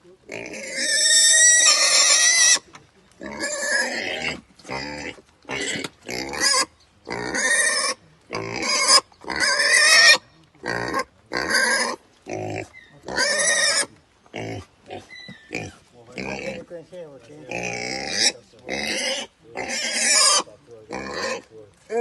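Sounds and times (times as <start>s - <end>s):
pig squealing: 0.3s - 16.6s, 17.5s - 21.4s.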